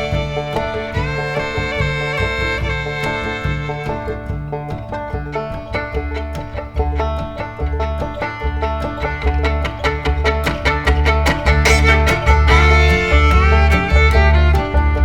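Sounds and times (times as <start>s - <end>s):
fiddle: 0.0s - 15.0s
plucked banjo: 0.0s - 15.0s
pulsing bass: 0.0s - 15.0s.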